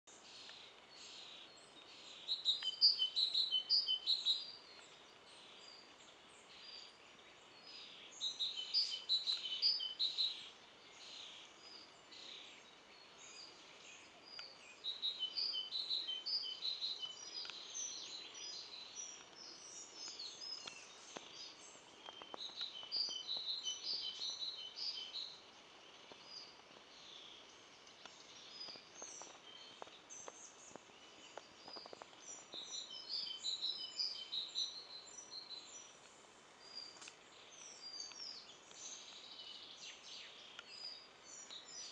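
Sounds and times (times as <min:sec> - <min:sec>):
songbirds chirping: 0:00.0 - 0:41.9
faint steady background hiss: 0:00.1 - 0:41.9.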